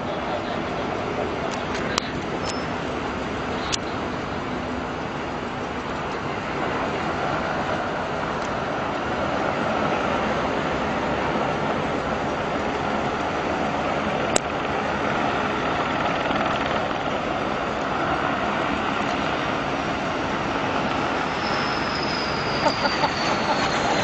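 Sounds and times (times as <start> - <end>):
faint high whine: 0.0 - 24.0
jet engine rushing: 0.0 - 24.0.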